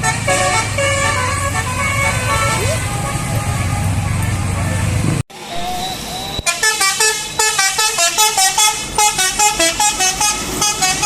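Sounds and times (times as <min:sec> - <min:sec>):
bus air horn playing tune: 0:00.0 - 0:04.8, 0:06.4 - 0:11.0.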